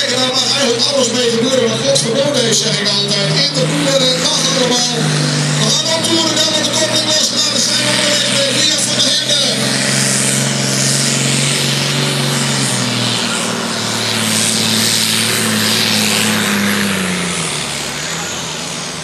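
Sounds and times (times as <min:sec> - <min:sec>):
tractor diesel engine at full revs: 0:00.0 - 0:19.0.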